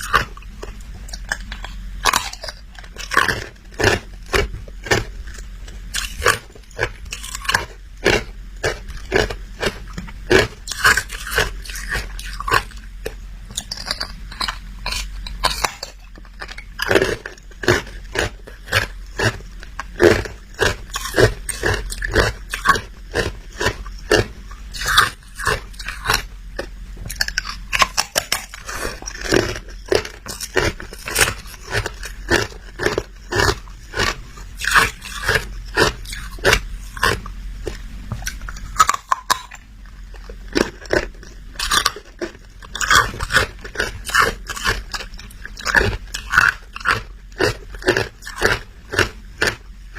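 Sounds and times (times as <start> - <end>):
person chewing hard ice: 0.0 - 49.9.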